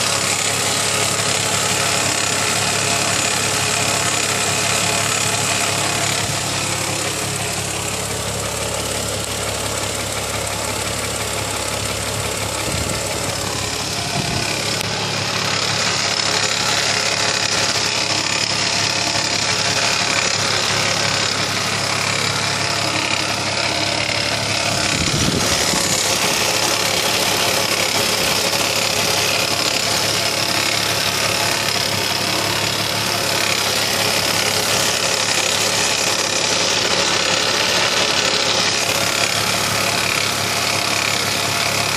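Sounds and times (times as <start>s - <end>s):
car engine idling: 0.0s - 41.9s
engine ticking: 0.0s - 41.9s
engine whine: 0.0s - 41.9s.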